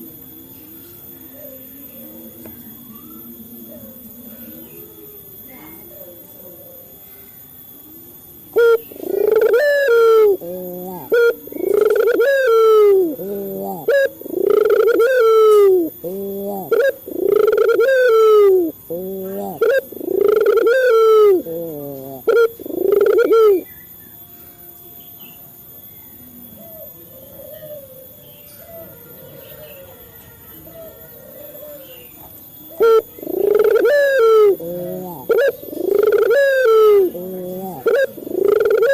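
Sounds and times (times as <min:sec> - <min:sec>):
dove cooing: 0:00.0 - 0:24.0, 0:26.2 - 0:38.9
faint bird calls: 0:00.0 - 0:24.4, 0:26.0 - 0:38.9.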